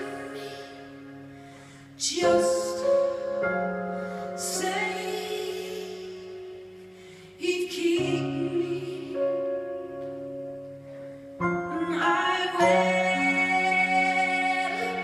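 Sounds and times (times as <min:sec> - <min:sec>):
keyboard chords: 0:00.0 - 0:15.0.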